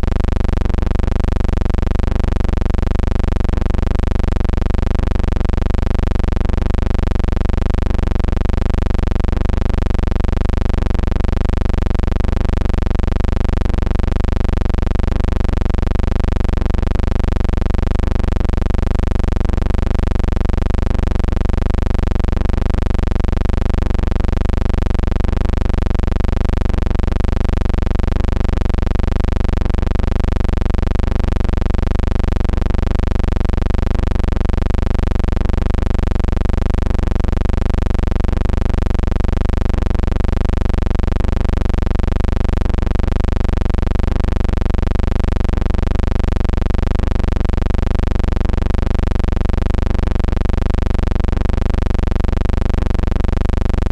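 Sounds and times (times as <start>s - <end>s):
steady low hum: 0.0s - 42.0s, 42.6s - 53.9s.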